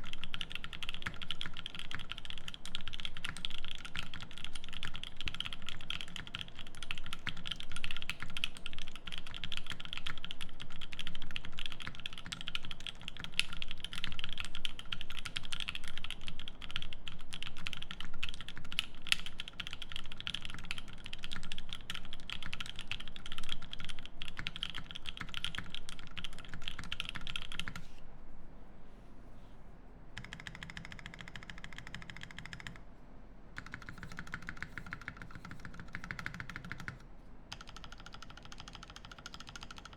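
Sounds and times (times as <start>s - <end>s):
fast mechanical keyboard typing: 0.0s - 27.8s, 30.2s - 32.8s, 33.6s - 39.9s.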